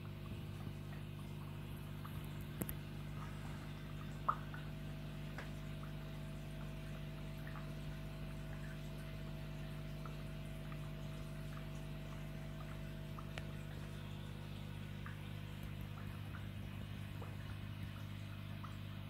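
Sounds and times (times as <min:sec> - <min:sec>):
pump hum: 0:00.0 - 0:19.0
soft water drips: 0:00.0 - 0:19.0
trickling water: 0:00.0 - 0:19.0.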